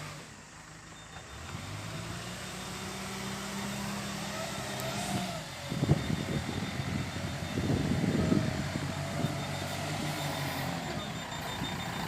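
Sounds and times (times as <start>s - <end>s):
backhoe loader engine running: 0.0s - 12.0s.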